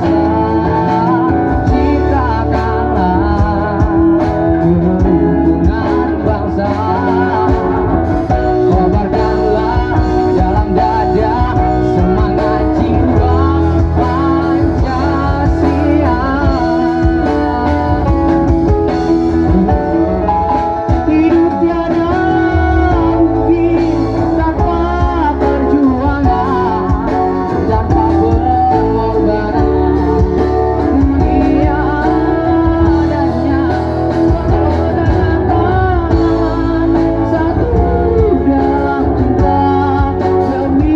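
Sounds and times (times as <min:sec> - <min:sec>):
band playing: 0:00.0 - 0:40.9
guitar: 0:00.0 - 0:40.9
person singing: 0:00.0 - 0:40.9.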